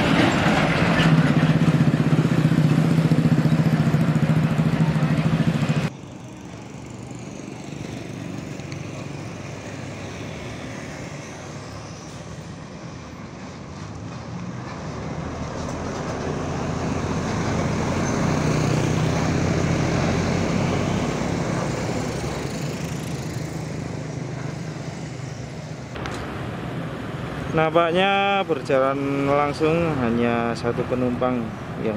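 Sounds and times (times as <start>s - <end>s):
bus diesel engine passing: 0.0s - 31.9s.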